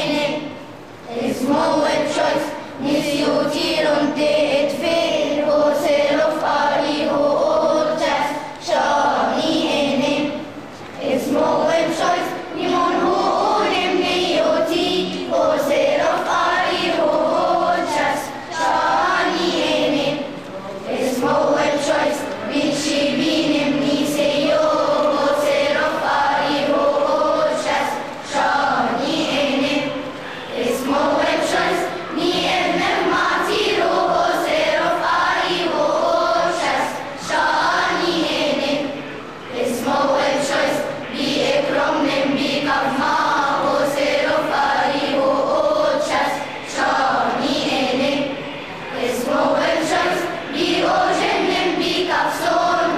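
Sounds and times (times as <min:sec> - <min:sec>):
children's choir singing: 0:00.0 - 0:52.9.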